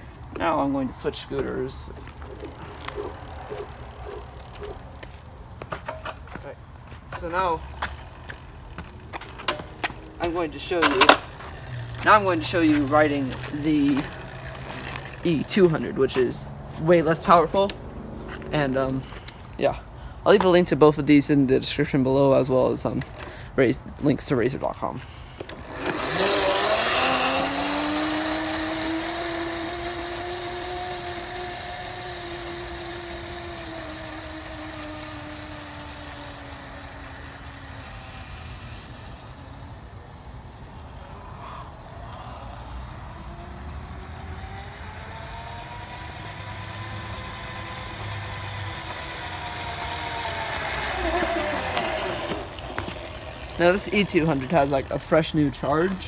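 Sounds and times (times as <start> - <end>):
electric scooter motor whining: 0.0 - 20.0, 22.0 - 56.0.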